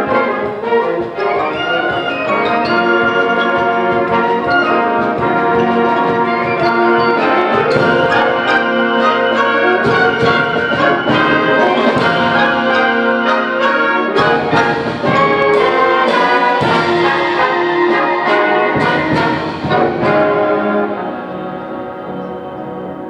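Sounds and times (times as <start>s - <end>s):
sharp percussion accents: 0.0s - 22.9s
symphonic band playing: 0.0s - 23.0s.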